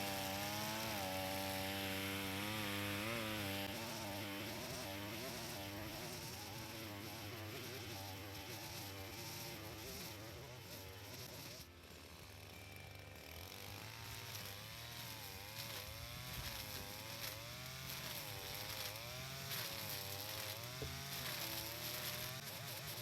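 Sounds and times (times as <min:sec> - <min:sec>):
brush cutter cutting grass: 0:00.0 - 0:23.0.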